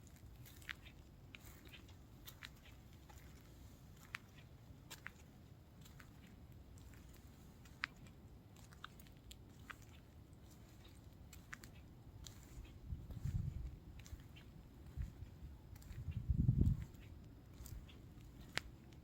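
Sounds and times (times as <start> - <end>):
low steady rumble: 0.0 - 19.0
footsteps crunching on sand: 0.1 - 19.0.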